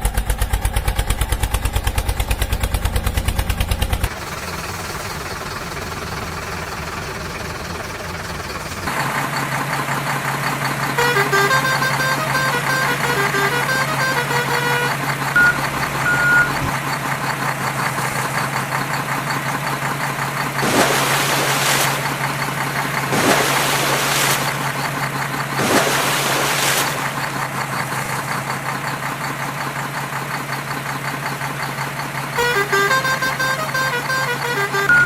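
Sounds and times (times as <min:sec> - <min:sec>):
heavy vehicle engine drone: 0:00.0 - 0:35.0.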